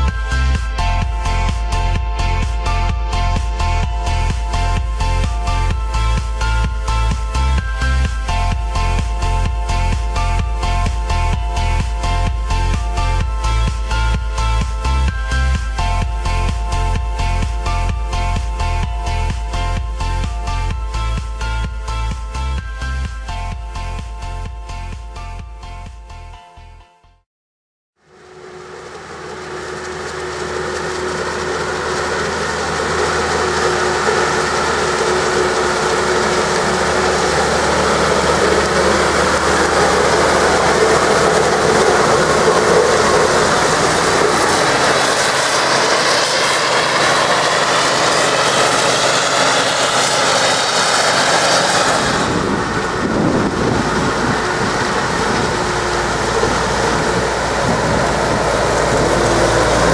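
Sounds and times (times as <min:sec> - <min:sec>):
diesel engines running: 0:00.0 - 0:24.6, 0:28.0 - 0:59.9.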